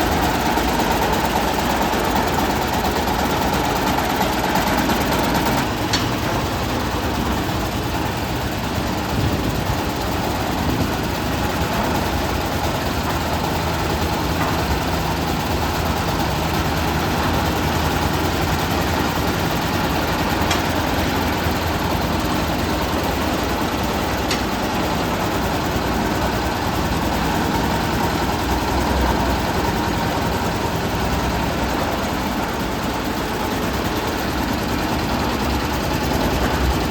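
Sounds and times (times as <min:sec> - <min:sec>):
concrete mixer engine droning: 0:00.0 - 0:36.9.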